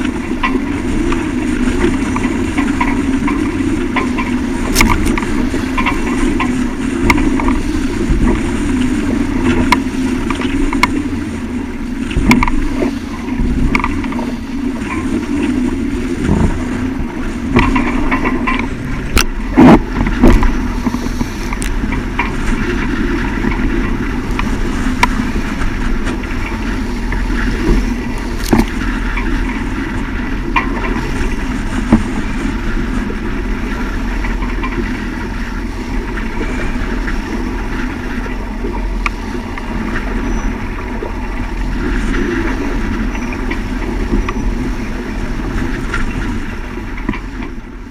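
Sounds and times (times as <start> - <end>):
water noise: 0.0 - 47.9
wind: 0.0 - 47.9.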